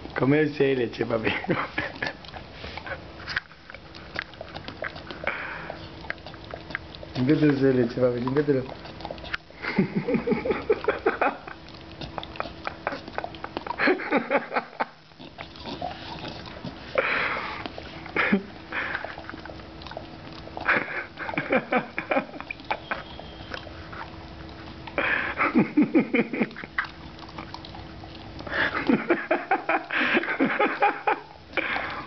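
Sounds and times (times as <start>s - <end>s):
dog licking lips: 0.0s - 30.4s.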